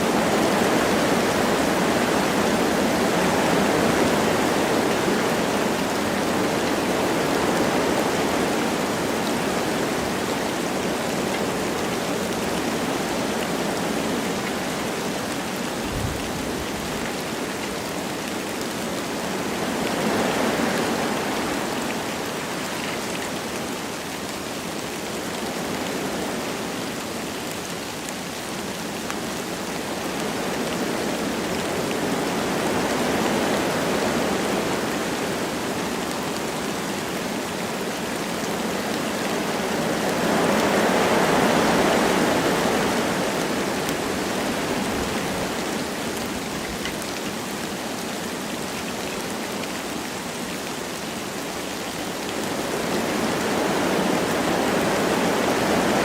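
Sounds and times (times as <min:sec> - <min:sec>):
light rain falling: 0:00.0 - 0:56.0
wind through trees: 0:00.0 - 0:56.0.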